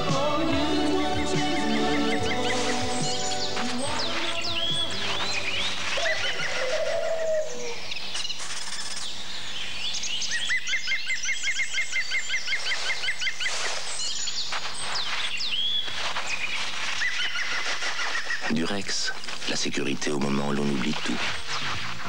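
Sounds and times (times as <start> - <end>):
fast repeated bird chirps: 0.0 - 7.2, 7.8 - 22.0
birds singing and calling: 0.0 - 22.0.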